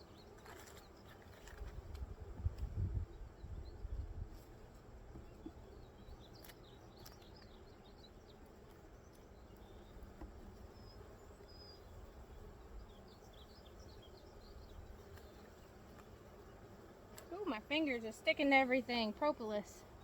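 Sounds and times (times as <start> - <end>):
honeybees buzzing: 0.1 - 20.0.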